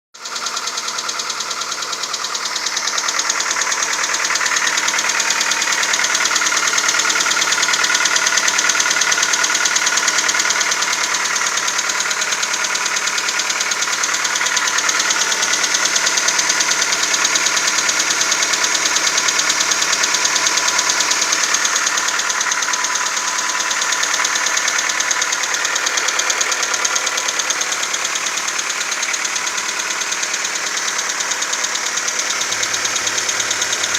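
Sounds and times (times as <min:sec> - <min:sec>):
car engine idling with ticking knock: 0:00.2 - 0:33.9.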